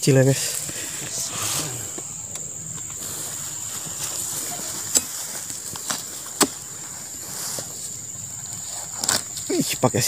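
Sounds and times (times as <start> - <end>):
high-pitched insect buzz: 0.1 - 9.8.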